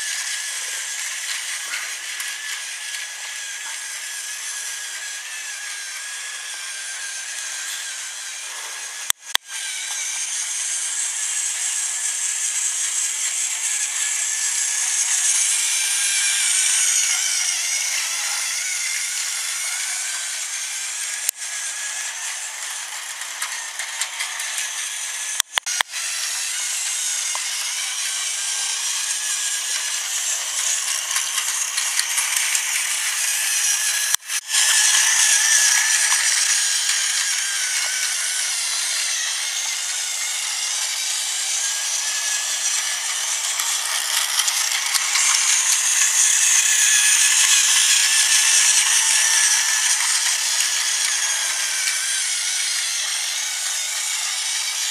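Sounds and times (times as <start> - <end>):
toy train motor whirring: 0.0 - 54.9
wheels rattling on plastic track: 0.0 - 54.9.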